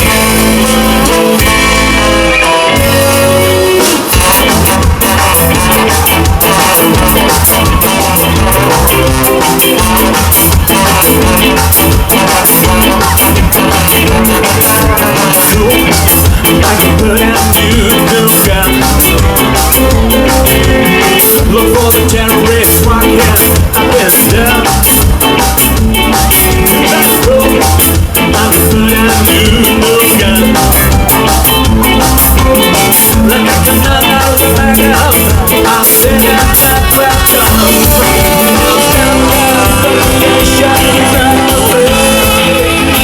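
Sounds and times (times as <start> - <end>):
bass guitar: 0.0 - 43.0
live ska band playing: 0.0 - 43.0
steady drum beat: 0.0 - 43.0.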